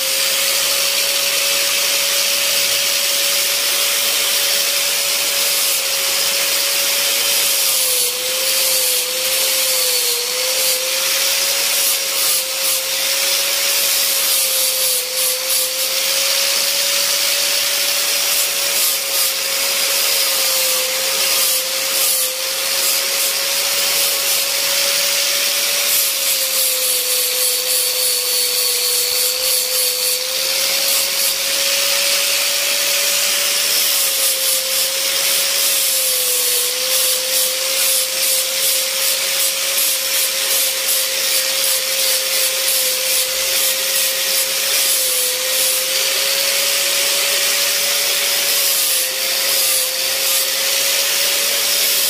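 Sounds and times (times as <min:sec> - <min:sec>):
bit grinding against wood: 0:00.0 - 0:52.0
rotary tool whine: 0:00.0 - 0:52.0.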